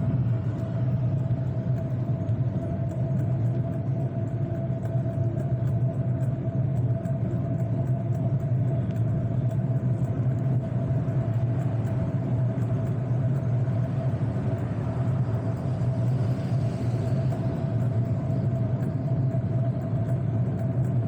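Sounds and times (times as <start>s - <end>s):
bicycle rolling on paved road: 0.0s - 21.0s.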